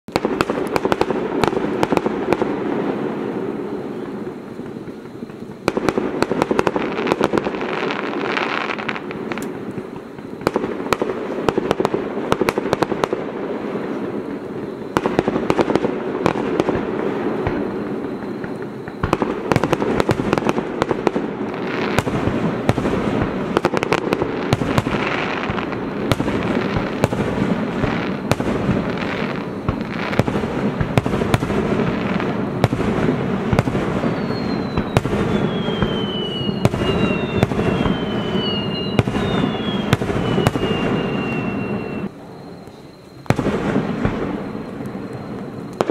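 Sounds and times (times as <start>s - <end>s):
firework whistles sliding down: 0.1s - 11.6s, 13.7s - 45.9s
firework bursts and crackling: 0.1s - 45.9s.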